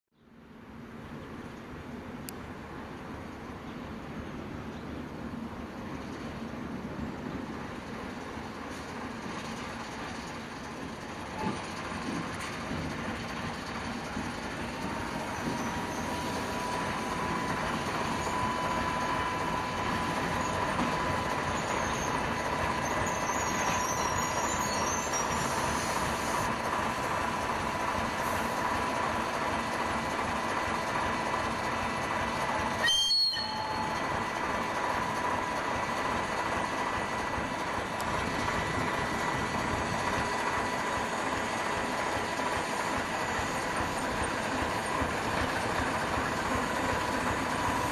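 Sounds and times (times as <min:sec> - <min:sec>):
locomotive engine drone: 0:00.3 - 0:47.9.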